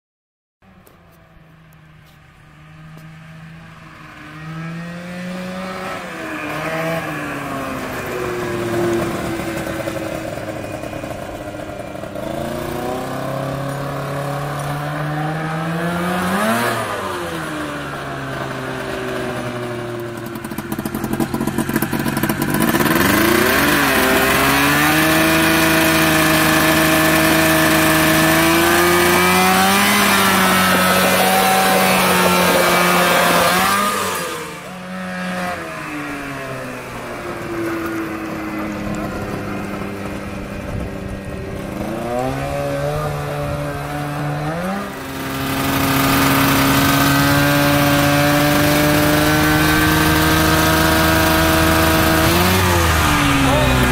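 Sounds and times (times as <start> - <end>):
snowmobile engine revving: 1.5 - 53.9.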